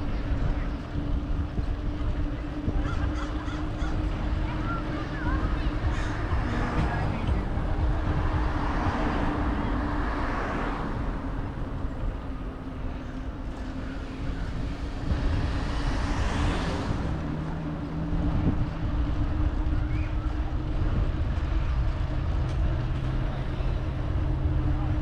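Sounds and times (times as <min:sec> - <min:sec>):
low rumble and hum: 0:00.0 - 0:25.0
vehicle passing: 0:01.0 - 0:25.0.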